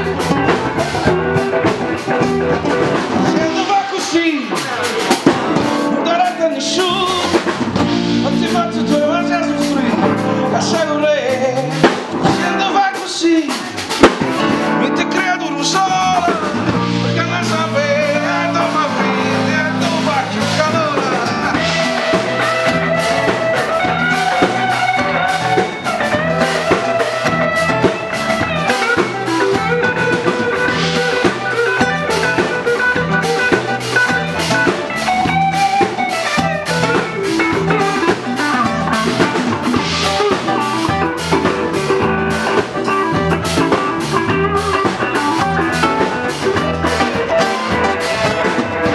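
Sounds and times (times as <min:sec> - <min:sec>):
bending lead guitar line: 0:00.0 - 0:48.9
blues band playing: 0:00.0 - 0:48.9.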